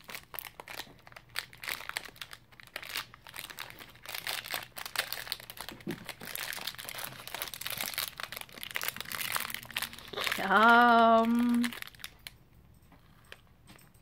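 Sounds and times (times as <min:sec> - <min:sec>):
wrapper crinkling and tearing: 0:00.0 - 0:12.4.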